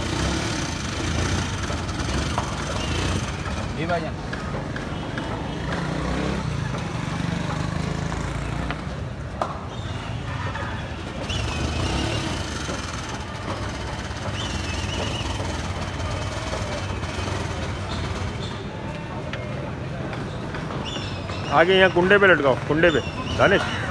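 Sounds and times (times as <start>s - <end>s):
street traffic rumble: 0.0s - 23.9s.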